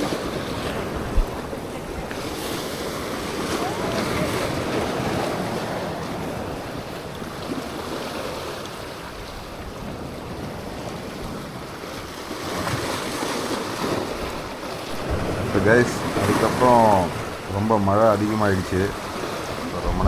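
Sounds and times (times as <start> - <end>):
waves: 0.0 - 20.0
wind on microphone: 0.0 - 20.0.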